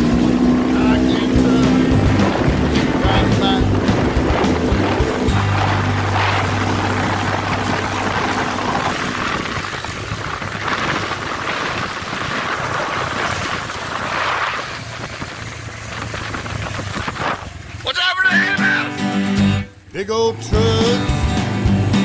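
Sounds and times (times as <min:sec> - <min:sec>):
wind buffeting microphone: 0:00.0 - 0:17.8
motor vehicle running: 0:00.0 - 0:22.0.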